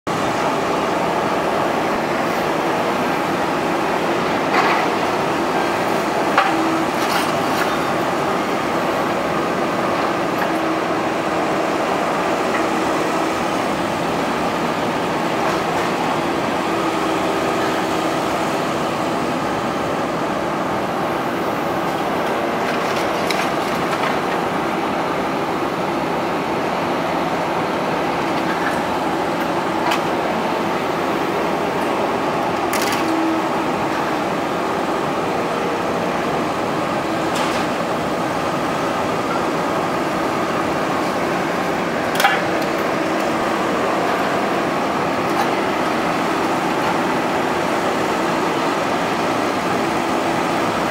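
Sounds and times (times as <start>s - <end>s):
excavator diesel engine running: 0.1s - 50.9s.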